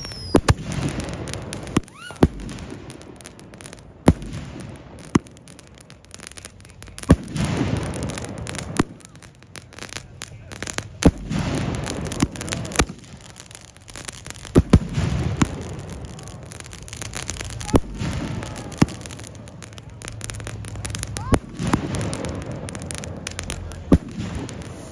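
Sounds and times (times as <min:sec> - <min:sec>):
firework bangs: 0:00.0 - 0:24.9.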